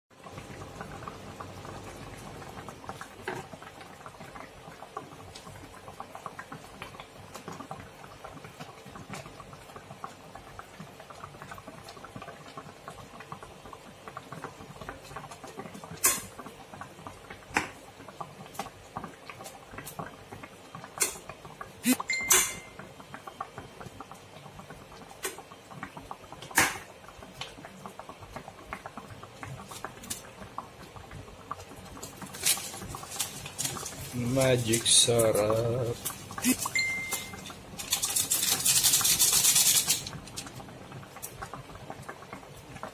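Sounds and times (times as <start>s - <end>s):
soup simmering and bubbling: 0.1s - 42.9s.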